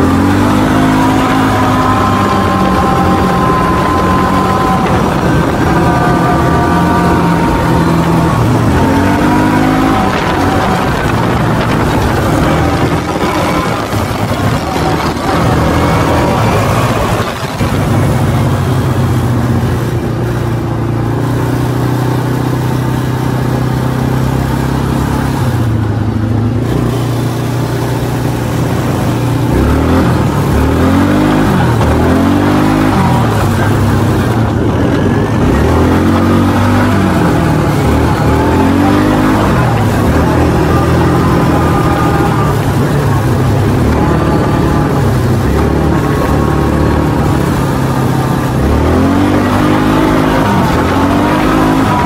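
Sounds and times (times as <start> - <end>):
quad engine revving: 0.0 - 52.0.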